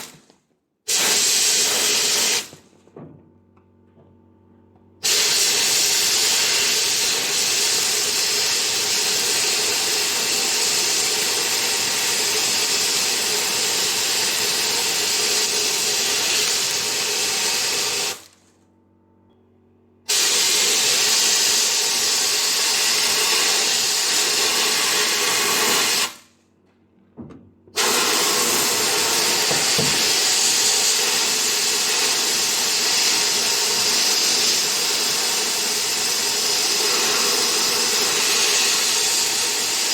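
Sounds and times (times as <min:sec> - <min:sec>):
sandblaster hissing: 0:00.9 - 0:02.6, 0:05.0 - 0:18.3, 0:20.1 - 0:26.3, 0:27.8 - 0:39.9.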